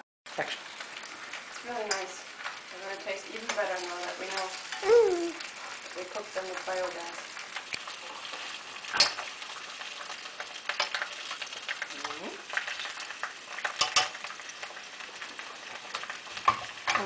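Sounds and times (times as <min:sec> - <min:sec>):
sausages sizzling in a pan: 0:00.3 - 0:17.0.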